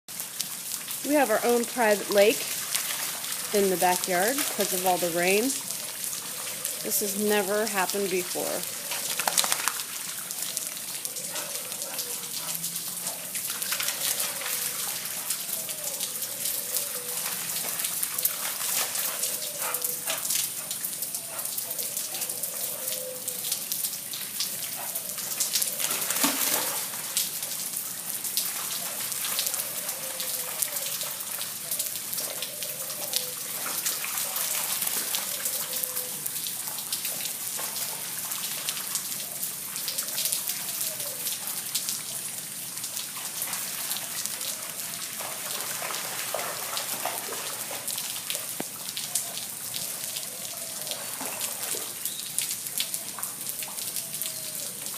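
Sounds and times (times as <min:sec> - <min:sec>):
rain on floodwater: 0:00.0 - 0:54.9.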